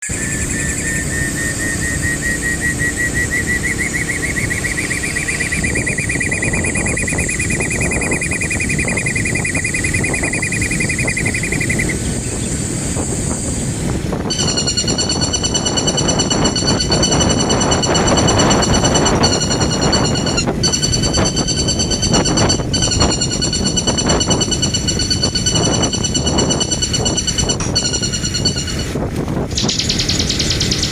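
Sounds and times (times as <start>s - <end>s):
birds chirping: 0.1s - 12.8s, 14.3s - 30.9s
steady low rumble: 5.6s - 30.3s.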